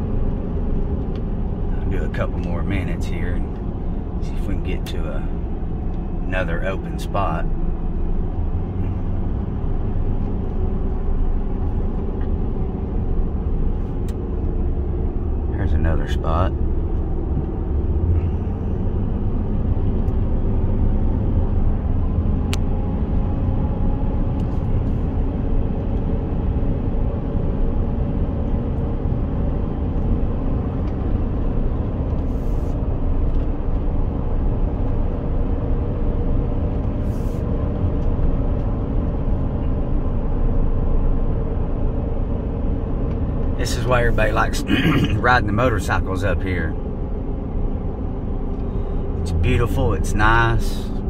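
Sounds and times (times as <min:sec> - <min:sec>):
car cabin road rumble: 0:00.0 - 0:51.0.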